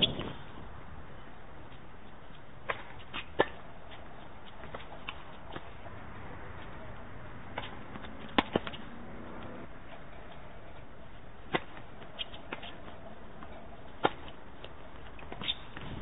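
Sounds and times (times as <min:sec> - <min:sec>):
tennis ball bouncing: 0:01.7 - 0:16.0
racket hitting tennis ball: 0:02.6 - 0:16.0.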